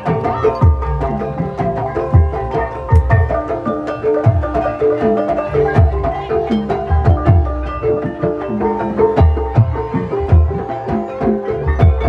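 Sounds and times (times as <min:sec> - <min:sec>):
low hand-drum strokes: 0:00.0 - 0:12.0
tuned mallet percussion: 0:00.0 - 0:12.0.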